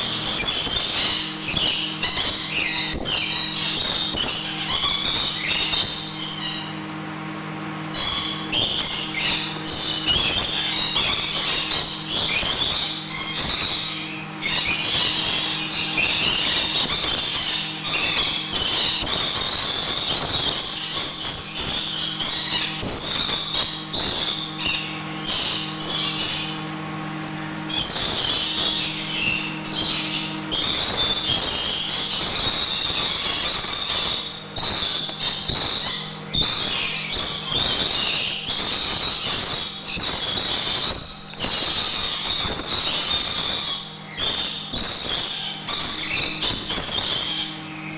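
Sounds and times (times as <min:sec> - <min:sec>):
lorikeets chattering and screeching: 0:00.0 - 0:07.0, 0:07.8 - 0:47.9.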